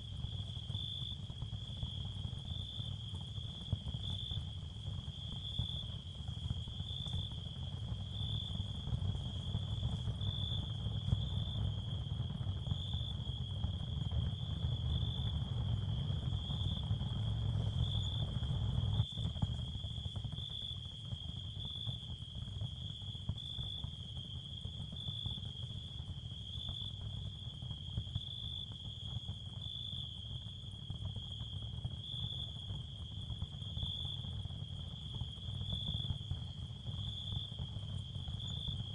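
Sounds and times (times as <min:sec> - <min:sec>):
crickets trilling: 0:00.1 - 0:38.9.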